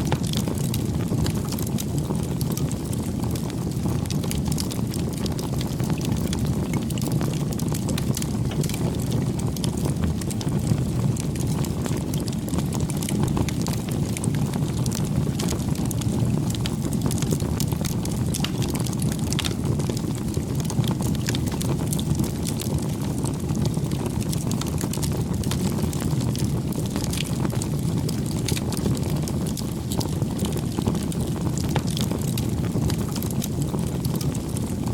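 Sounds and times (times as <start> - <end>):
fire crackles and pops: 0.0 - 34.9
flames rushing: 0.0 - 34.9.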